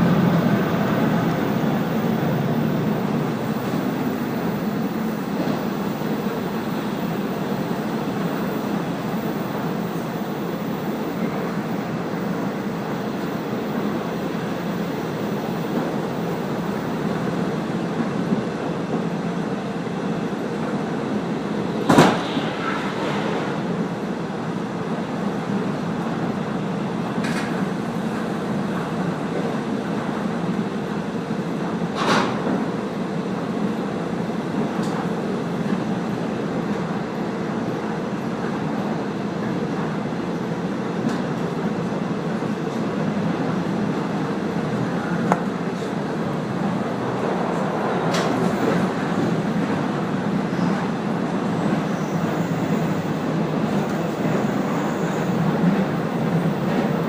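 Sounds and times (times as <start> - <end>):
diesel railcar running: 0.0 - 57.0.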